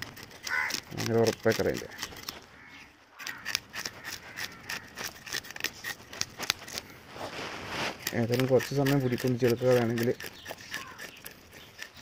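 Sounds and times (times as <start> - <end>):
fish scales being scraped: 0.0 - 2.5, 3.2 - 12.0.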